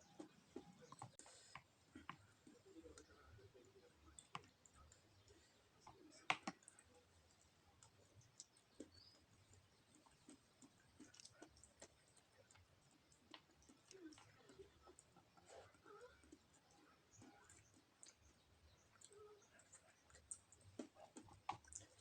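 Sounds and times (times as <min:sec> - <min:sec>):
person eating with clicks: 0:00.0 - 0:22.0.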